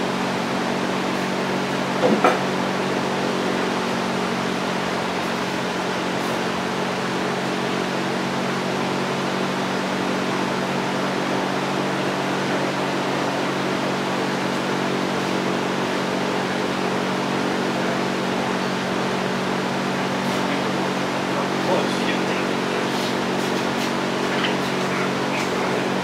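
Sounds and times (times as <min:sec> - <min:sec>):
machine hum with hiss: 0:00.0 - 0:26.0.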